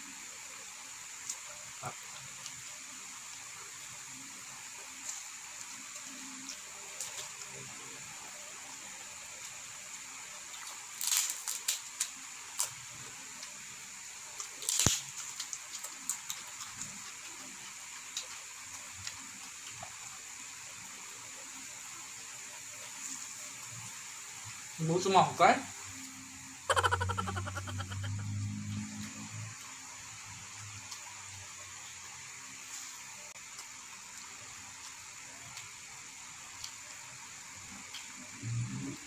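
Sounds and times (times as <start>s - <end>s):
steady hiss: 0.0s - 39.0s
crackles of crisp food bitten: 1.0s - 24.0s, 28.7s - 39.0s.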